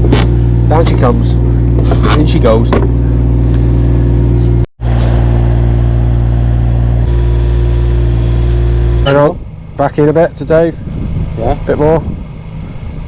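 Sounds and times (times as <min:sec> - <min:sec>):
lifting machine engine humming: 0:00.0 - 0:13.0.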